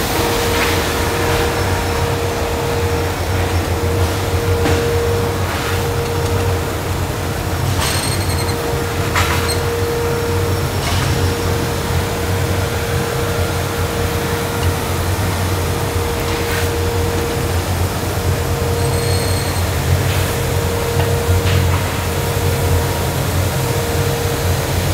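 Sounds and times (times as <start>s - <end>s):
conveyor machinery drone: 0.0s - 24.9s
steady machine whine: 0.0s - 24.9s.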